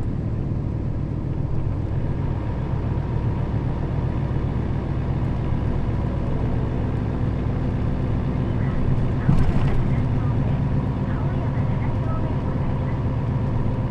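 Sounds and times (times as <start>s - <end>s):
bus diesel engine running: 0.0s - 13.9s.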